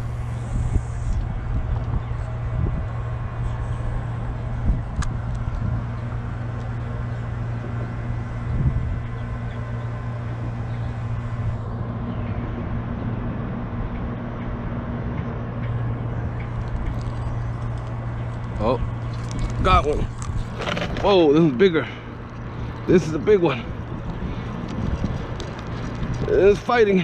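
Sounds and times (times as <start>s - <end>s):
traffic drone on bridge: 0.0s - 27.0s.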